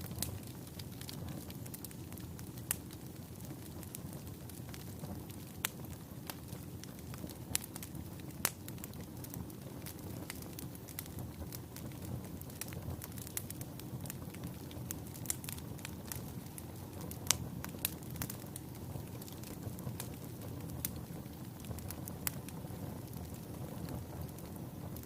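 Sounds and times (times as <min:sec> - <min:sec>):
fire crackling and popping: 0:00.0 - 0:25.0
low rumble of flame: 0:00.0 - 0:25.0.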